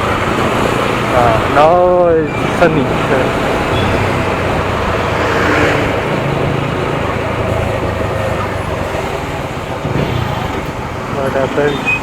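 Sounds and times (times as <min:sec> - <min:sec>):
motorcycle engine hum: 0:00.0 - 0:12.0
road and traffic noise: 0:00.0 - 0:12.0.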